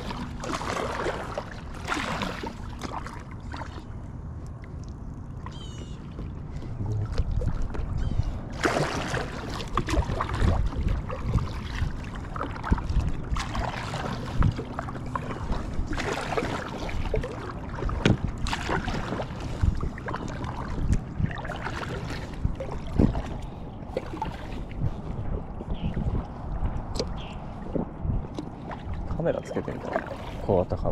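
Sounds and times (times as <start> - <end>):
water splashing: 0.0 - 4.8, 5.4 - 30.9.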